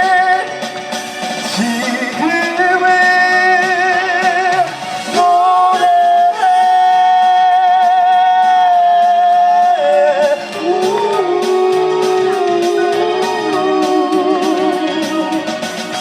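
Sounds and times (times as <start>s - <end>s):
person singing with vibrato: 0.0s - 0.7s, 1.4s - 16.0s
live band backing music: 0.0s - 16.0s.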